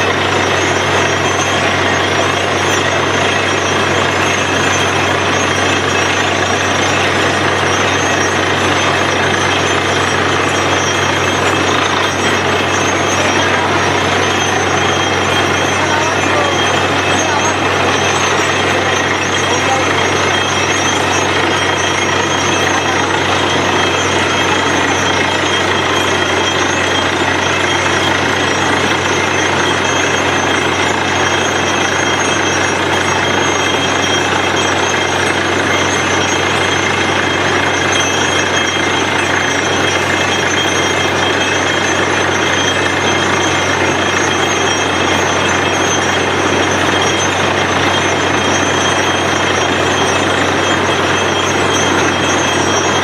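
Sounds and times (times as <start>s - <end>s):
drilling machine running: 0.0s - 53.0s.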